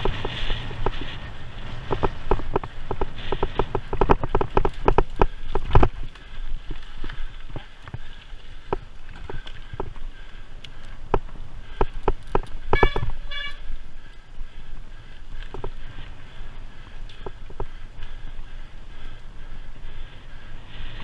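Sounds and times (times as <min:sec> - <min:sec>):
bike rattles and knocks: 0:00.0 - 0:13.7, 0:15.0 - 0:18.3
bike rumbling over gravel: 0:00.0 - 0:21.0.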